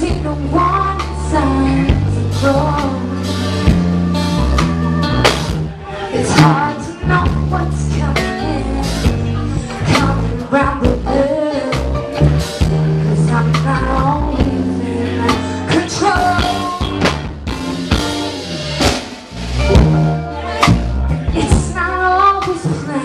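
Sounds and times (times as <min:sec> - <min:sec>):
live band playing pop-rock: 0:00.0 - 0:23.0.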